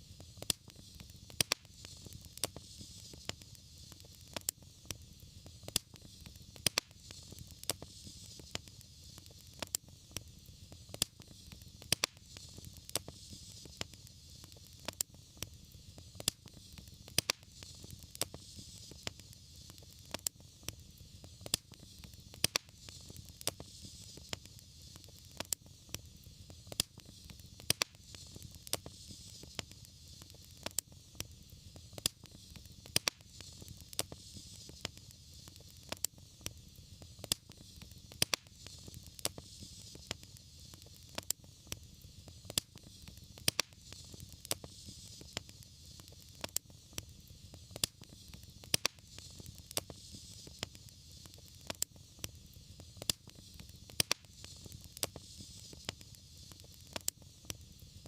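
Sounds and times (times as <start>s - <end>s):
hiss and rumble of flames: 0.0s - 58.0s
wood fire crackling and popping: 0.0s - 58.0s.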